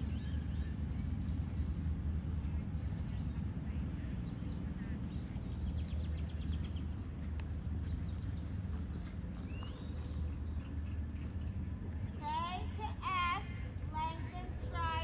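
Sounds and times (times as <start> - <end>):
birds calling: 0.0 - 15.0
steady low rumble: 0.0 - 15.0.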